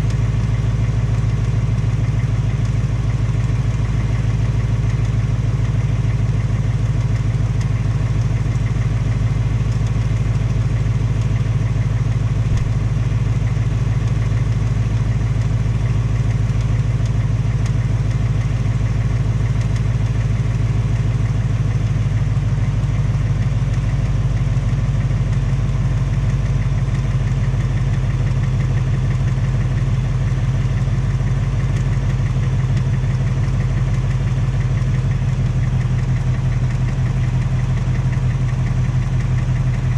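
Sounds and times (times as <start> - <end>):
car engine idling: 0.0 - 39.9
engine tapping: 0.0 - 39.9.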